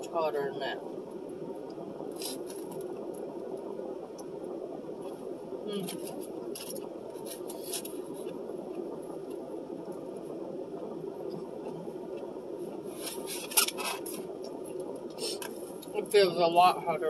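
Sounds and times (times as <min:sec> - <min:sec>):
car air conditioner blowing: 0:00.0 - 0:17.0.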